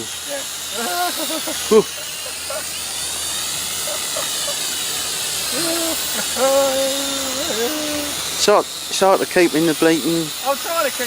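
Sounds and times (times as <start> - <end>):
toy quadcopter buzzing: 0.0 - 11.0.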